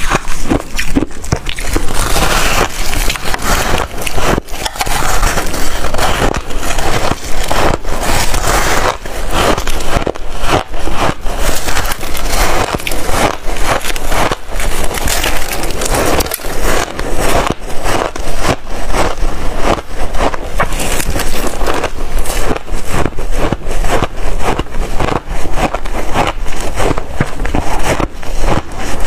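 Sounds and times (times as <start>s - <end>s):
crunching and chewing ice: 0.0s - 29.0s.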